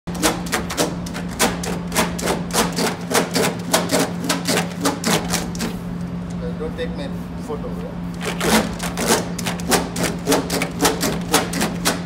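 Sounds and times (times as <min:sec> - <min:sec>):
low electrical hum: 0:00.1 - 0:12.0.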